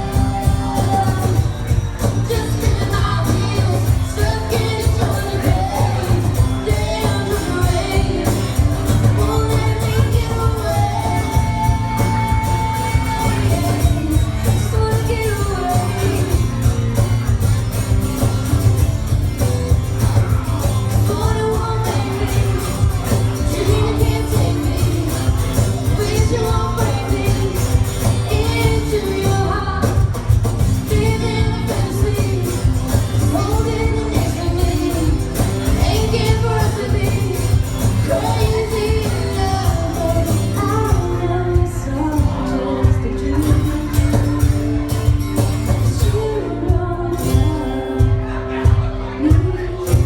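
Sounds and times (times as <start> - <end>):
low bass: 0.0 - 48.3
woman singing country song: 0.0 - 50.0.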